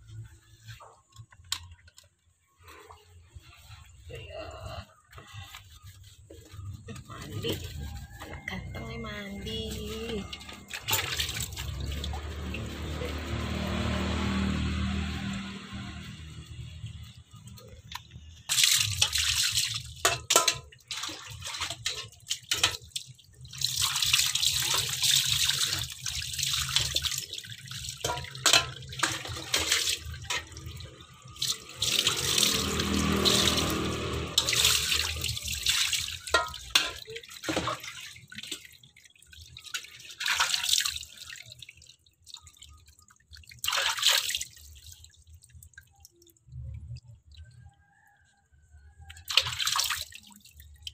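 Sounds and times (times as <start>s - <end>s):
water splashing and pouring: 0.0s - 50.9s.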